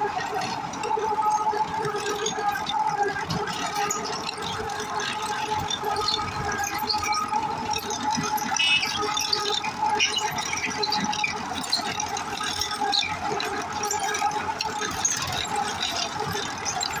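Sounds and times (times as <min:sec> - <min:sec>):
tractor running: 0:00.0 - 0:17.0.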